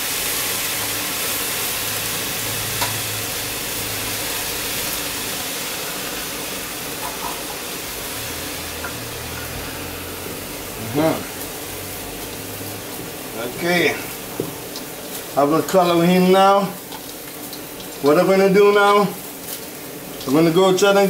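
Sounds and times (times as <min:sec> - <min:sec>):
hot oil sizzling in a pot: 0:00.0 - 0:21.0.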